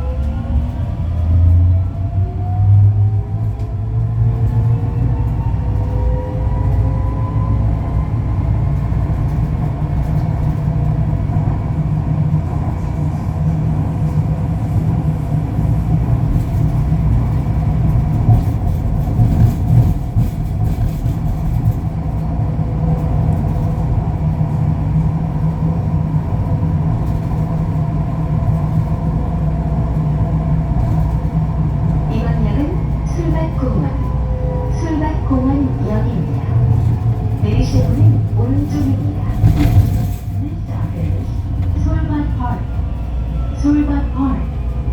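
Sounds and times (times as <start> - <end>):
train rumbling: 0.0 - 44.9.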